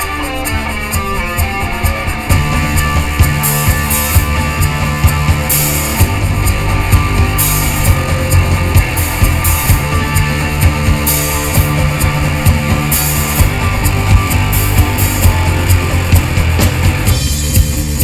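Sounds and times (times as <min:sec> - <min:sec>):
distorted electric guitar: 0:00.0 - 0:18.0
drum kit with cymbal crashes: 0:00.0 - 0:18.0
electric bass: 0:00.0 - 0:18.0.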